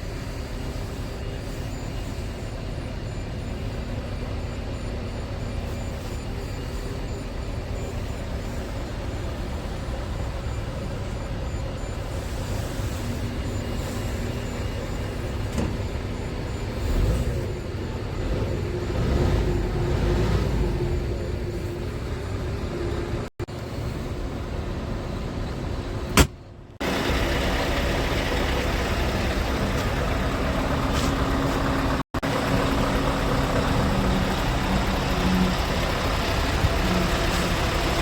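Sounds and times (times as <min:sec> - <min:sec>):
diesel truck engine running: 0:02.8 - 0:38.0.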